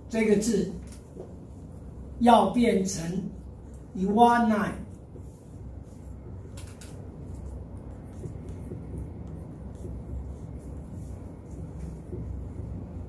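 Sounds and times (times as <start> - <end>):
low room rumble: 0.0 - 13.0.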